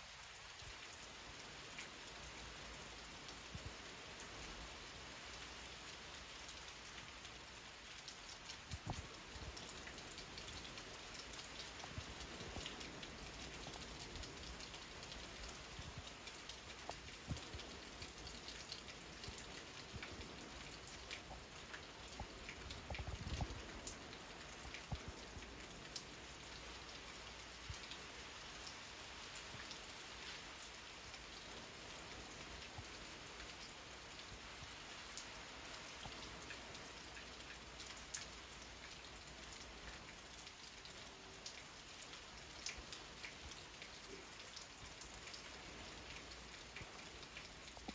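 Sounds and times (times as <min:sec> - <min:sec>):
rain falling: 0:00.0 - 0:47.9
raindrops ticking: 0:00.1 - 0:47.9.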